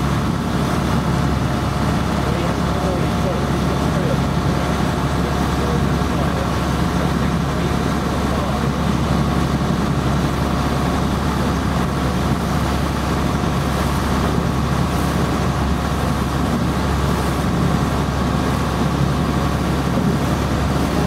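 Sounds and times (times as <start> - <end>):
boat engine drone: 0.0 - 21.0.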